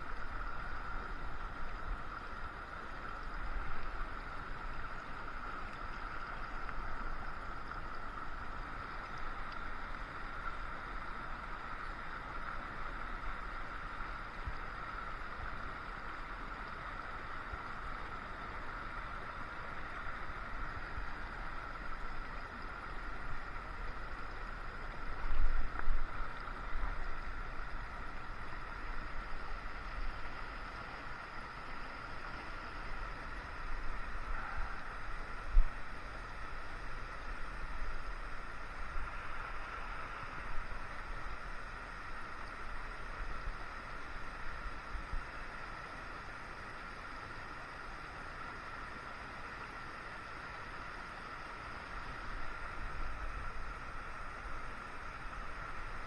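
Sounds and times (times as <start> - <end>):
creek rushing over rocks: 0.0 - 47.4.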